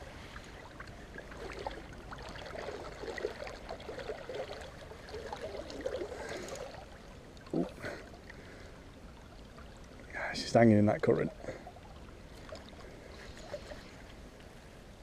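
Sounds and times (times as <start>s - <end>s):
river water flowing: 0.0s - 15.0s
trickling splashes: 0.5s - 14.2s.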